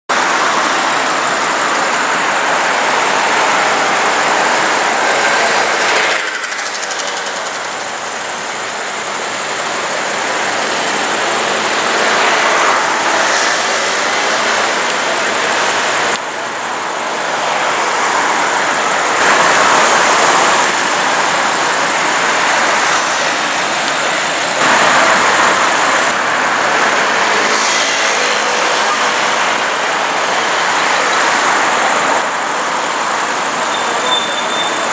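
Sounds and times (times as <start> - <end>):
loud street noise: 0.1 - 34.9.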